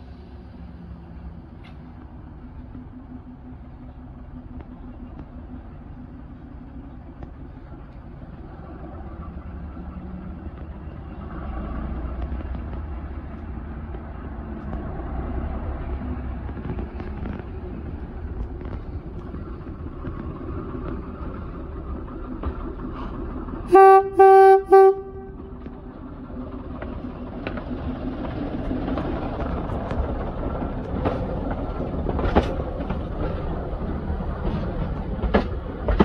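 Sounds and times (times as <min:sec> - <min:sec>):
diesel engine rumbling: 0:00.0 - 0:36.0.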